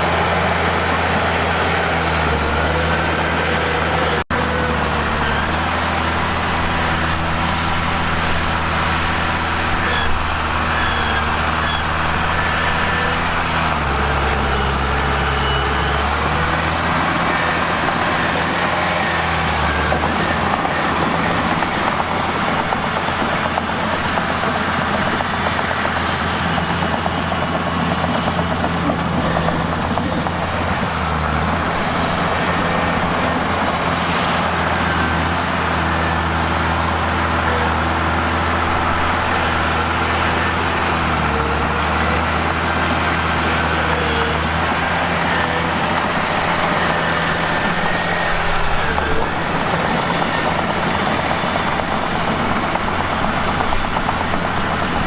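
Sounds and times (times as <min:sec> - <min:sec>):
bulldozer diesel engine running: 0:00.0 - 0:55.0
heavy mechanical noise: 0:00.0 - 0:55.0.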